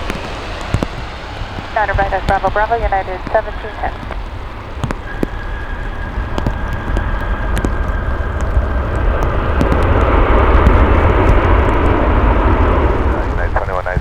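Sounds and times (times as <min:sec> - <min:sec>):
jet airliner engines rumbling: 0:00.0 - 0:14.0
raindrop ticks: 0:00.0 - 0:14.0.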